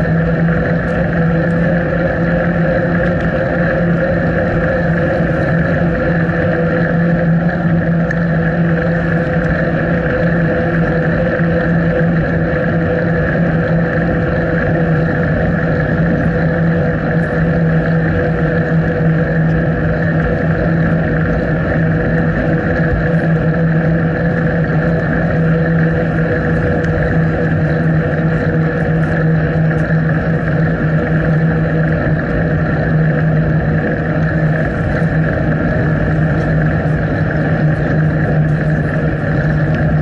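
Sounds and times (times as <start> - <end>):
constant low hum: 0.0 - 40.0
wind rushing while cycling: 0.0 - 40.0.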